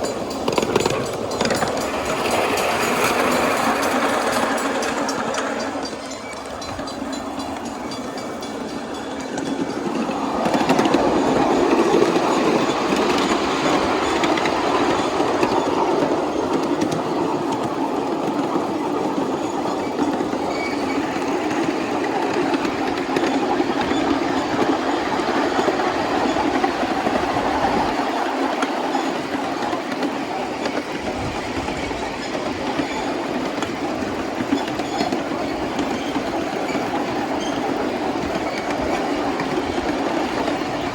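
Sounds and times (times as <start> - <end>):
steam train wheels rumbling on rails: 0.0 - 40.9.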